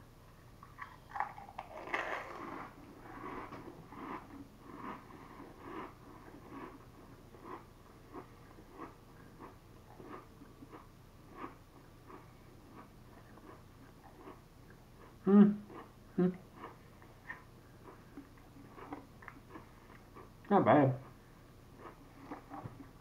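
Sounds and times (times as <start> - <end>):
crisps being chewed: 0.6 - 15.9, 16.5 - 23.0.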